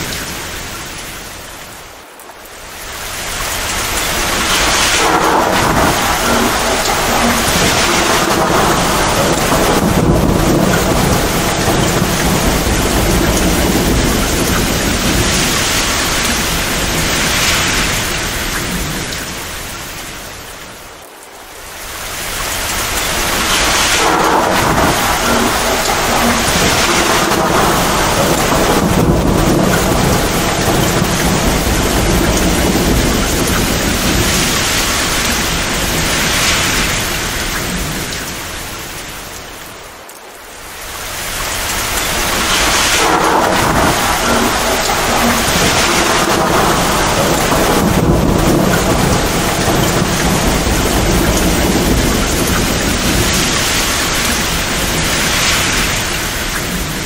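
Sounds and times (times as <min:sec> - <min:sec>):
torrential rain pouring: 0:00.0 - 0:57.0
rolling thunder: 0:03.0 - 0:20.8, 0:21.8 - 0:39.8, 0:40.8 - 0:57.0.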